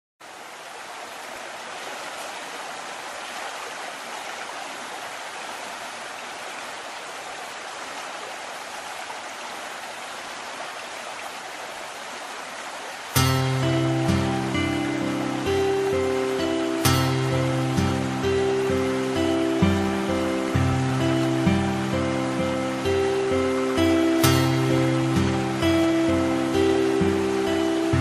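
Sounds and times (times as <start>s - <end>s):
running water rushing: 0.2s - 28.0s.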